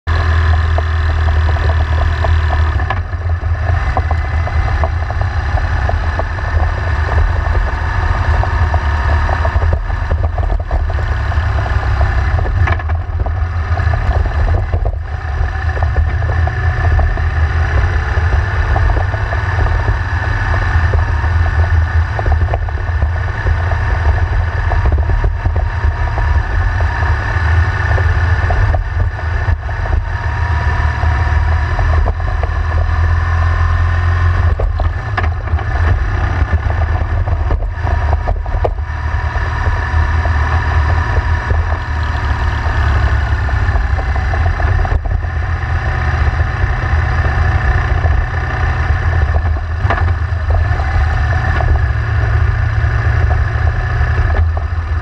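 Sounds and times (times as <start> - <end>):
motorcycle engine droning: 0.0 - 55.0
road and wind noise: 0.0 - 55.0.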